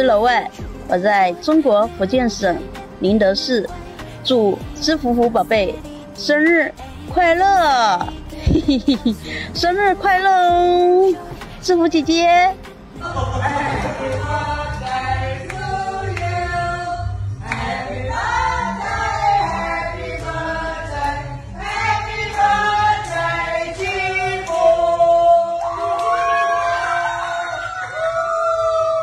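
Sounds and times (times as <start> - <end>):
voices singing together: 0.0 - 11.8, 13.0 - 27.8.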